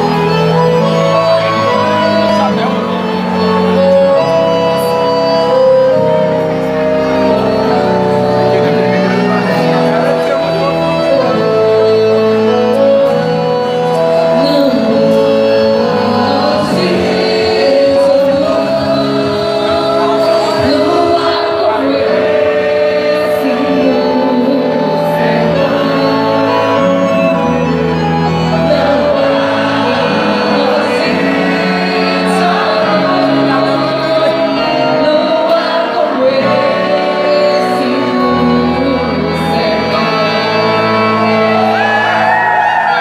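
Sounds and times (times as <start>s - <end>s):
folk dance song with singing: 0.0s - 43.0s.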